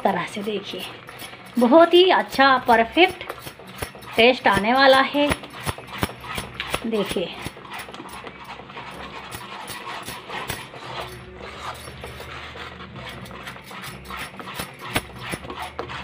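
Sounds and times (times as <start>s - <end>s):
metal spoon scraping pan: 0.0s - 16.0s.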